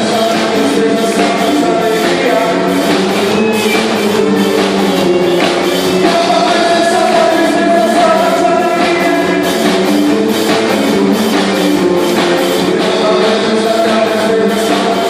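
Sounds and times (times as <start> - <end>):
person singing: 0.0 - 15.0
rock band playing: 0.0 - 15.0.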